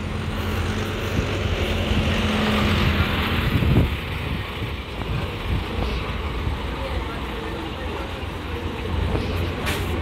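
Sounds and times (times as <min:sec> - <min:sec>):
bus engine humming: 0:00.0 - 0:10.0.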